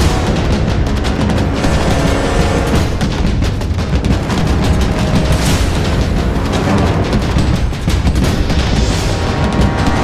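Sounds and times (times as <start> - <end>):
loud music with rapid drums: 0.0 - 10.0.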